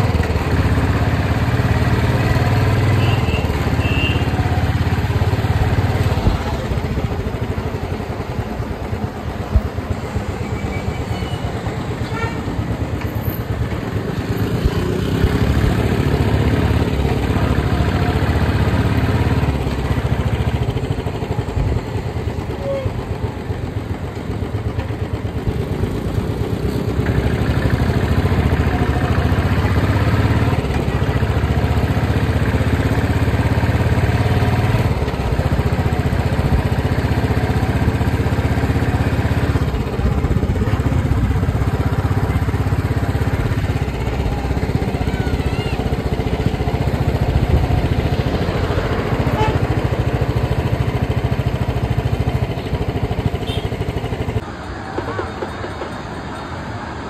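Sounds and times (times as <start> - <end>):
motorcycle engine running: 0.0 - 54.5.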